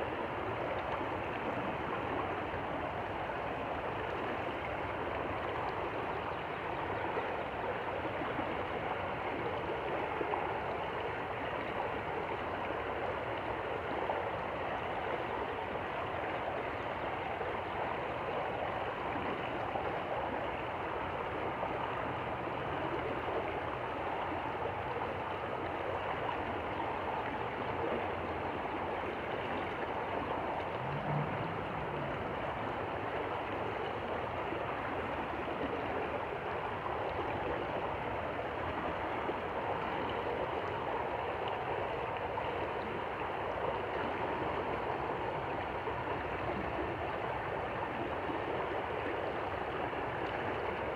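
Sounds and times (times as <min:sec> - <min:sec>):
stream water flowing: 0:00.0 - 0:50.9.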